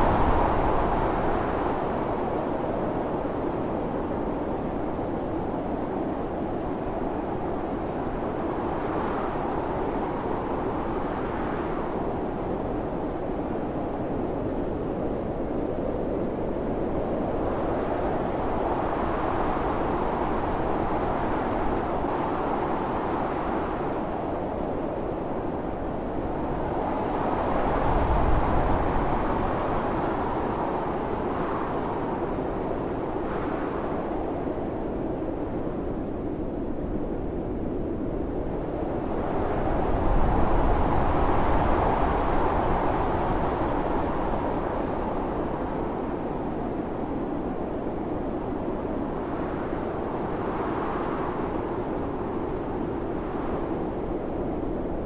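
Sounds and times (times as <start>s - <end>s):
howling blizzard wind: 0.0s - 55.0s.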